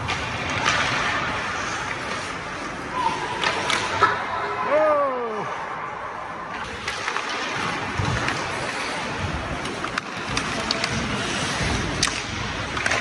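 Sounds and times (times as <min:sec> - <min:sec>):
sticks striking puck: 0:00.0 - 0:04.2, 0:06.6 - 0:13.0
skate blades scraping ice: 0:00.0 - 0:04.3, 0:06.6 - 0:13.0.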